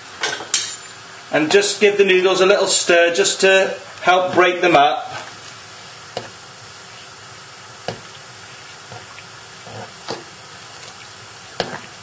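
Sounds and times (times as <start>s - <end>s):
steady hiss: 0.0s - 10.6s.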